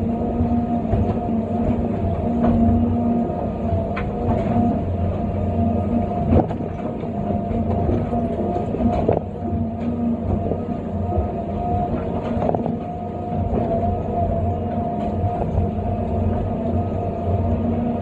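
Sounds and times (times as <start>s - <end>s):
excavator engine and hydraulics whine: 0.0s - 18.0s.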